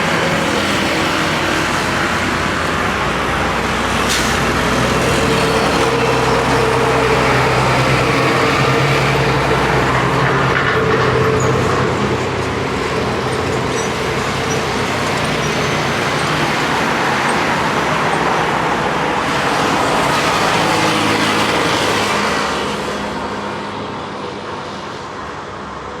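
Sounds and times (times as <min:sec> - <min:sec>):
car and truck engines: 0:00.0 - 0:26.0
heavy engine hum: 0:00.0 - 0:26.0.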